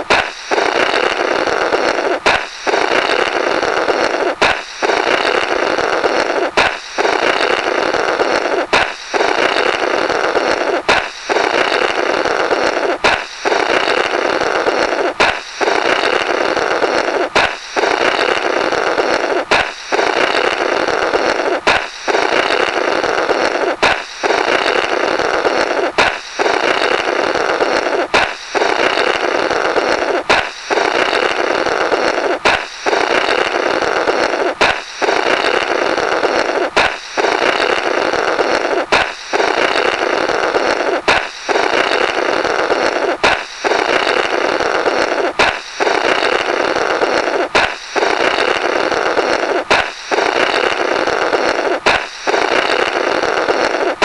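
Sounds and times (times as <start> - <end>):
air flapping through burst rubber: 0.0 - 54.0
balloon popping: 0.0 - 54.0.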